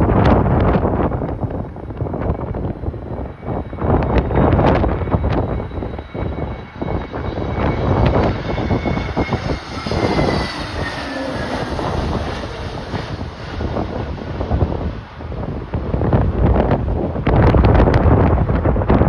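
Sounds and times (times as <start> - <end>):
jet engines whining: 0.0 - 19.0
wind buffeting microphone: 0.0 - 19.0.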